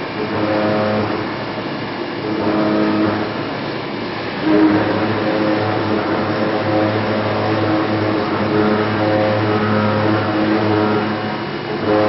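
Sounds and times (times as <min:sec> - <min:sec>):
milling machine cutting metal: 0:00.0 - 0:12.0.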